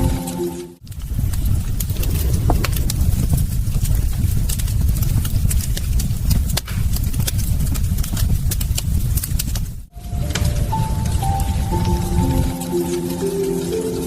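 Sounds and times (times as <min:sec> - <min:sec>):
wood fire crackling and popping: 0:00.1 - 0:14.0.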